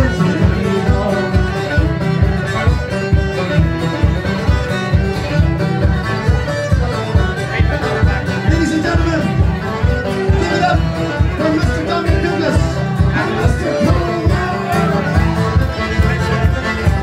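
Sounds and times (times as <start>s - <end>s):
acoustic guitar: 0.0s - 17.0s
banjo: 0.0s - 17.0s
fiddle: 0.0s - 17.0s.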